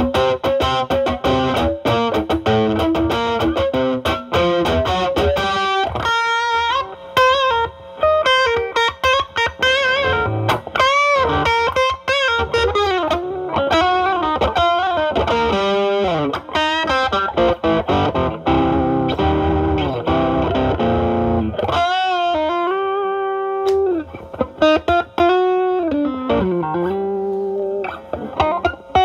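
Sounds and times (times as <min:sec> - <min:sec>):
overdriven electric guitar blues lead: 0:00.0 - 0:29.0.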